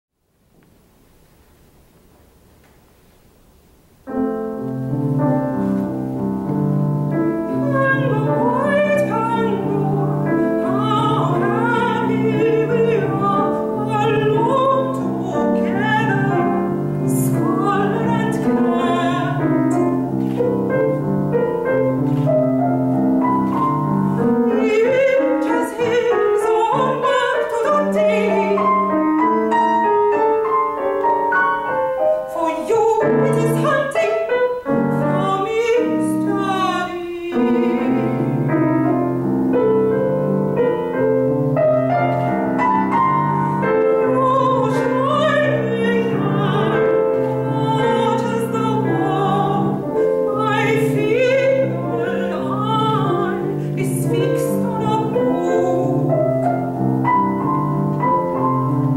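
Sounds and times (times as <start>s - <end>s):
grand piano accompaniment: 0.5s - 58.9s
soprano singing: 4.1s - 58.9s.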